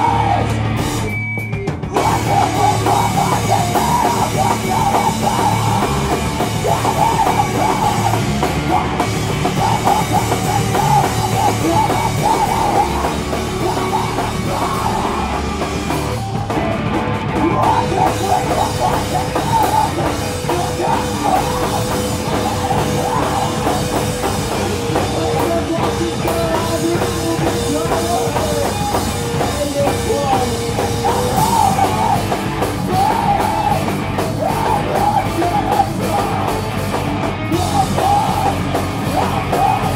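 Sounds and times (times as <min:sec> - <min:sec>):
distorted electric guitar: 0:00.0 - 0:39.9
drum kit: 0:00.0 - 0:39.9
rock band playing loud: 0:00.0 - 0:39.9.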